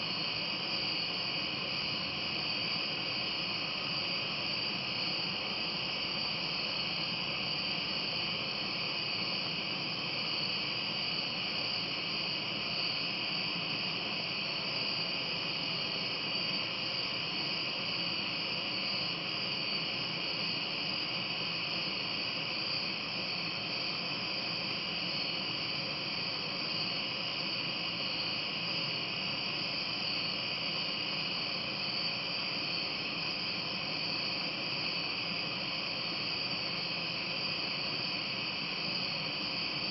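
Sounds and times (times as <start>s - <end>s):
night insects chorus: 0.0s - 39.9s.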